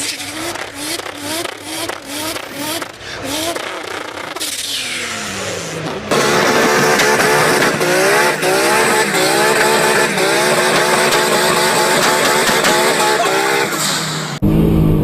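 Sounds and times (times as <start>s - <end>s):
toy car engine revving effect: 0.0s - 14.4s.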